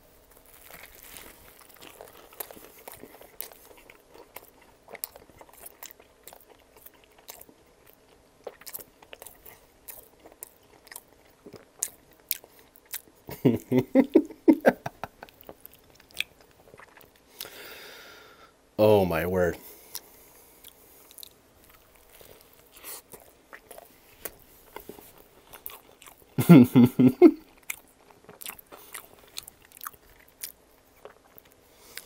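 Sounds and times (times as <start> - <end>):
biting and chewing with mouth clicks: 0.4 - 13.7, 14.8 - 17.6, 19.8 - 26.4, 27.4 - 32.0.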